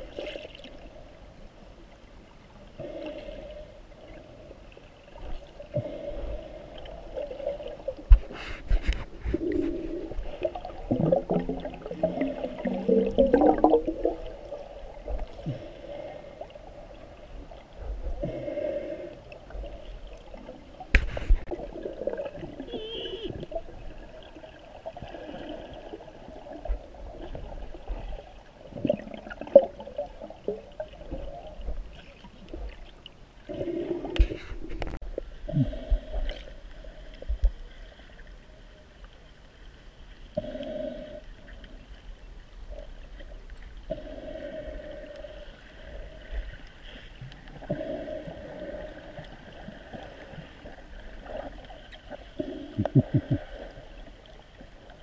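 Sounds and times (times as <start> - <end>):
muffled water gurgling: 0.0 - 55.0.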